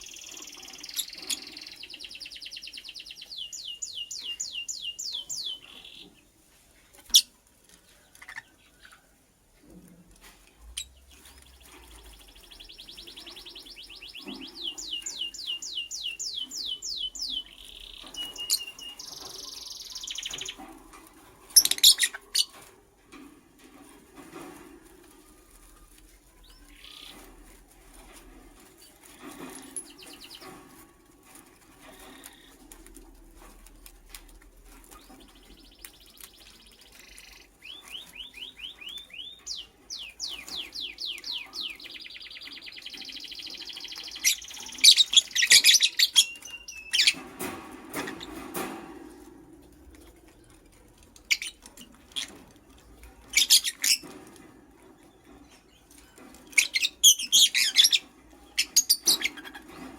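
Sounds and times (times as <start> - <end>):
bird chirping trills: 0.0 - 6.3, 10.7 - 22.7, 25.2 - 33.5, 34.6 - 48.5, 50.1 - 54.4, 55.0 - 59.9.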